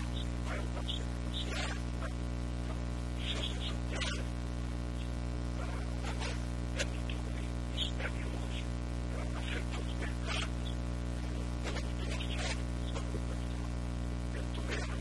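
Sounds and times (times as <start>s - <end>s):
electrical mains hum: 0.0s - 15.0s
faint crackle: 0.0s - 15.0s.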